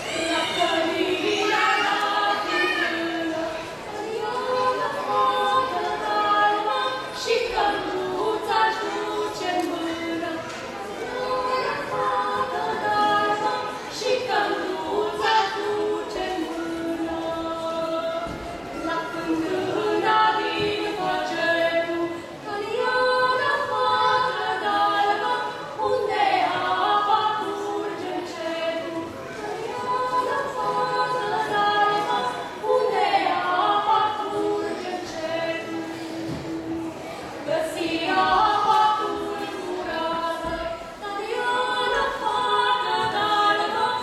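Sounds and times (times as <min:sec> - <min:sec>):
women singing a carol unaccompanied: 0:00.0 - 0:44.0.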